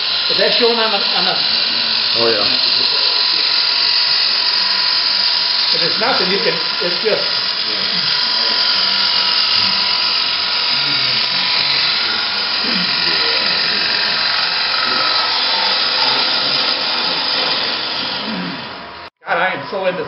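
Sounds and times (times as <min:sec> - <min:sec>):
lathe gouge cutting wood hiss: 0:00.0 - 0:19.1.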